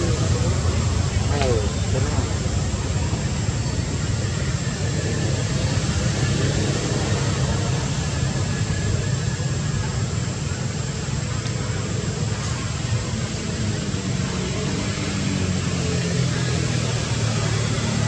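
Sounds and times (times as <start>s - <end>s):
steady rumbling background noise: 0.0s - 18.0s.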